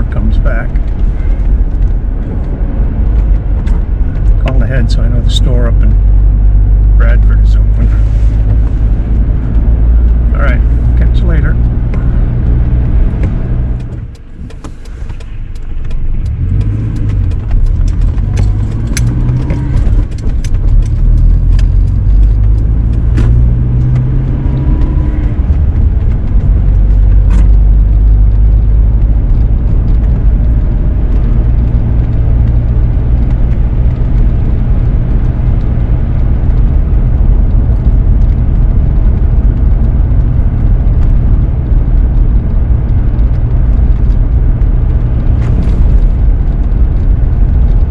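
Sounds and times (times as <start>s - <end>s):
sharp clicks and ticks: 0.0s - 7.8s, 8.4s - 47.9s
vehicle engine and road noise: 0.0s - 47.9s.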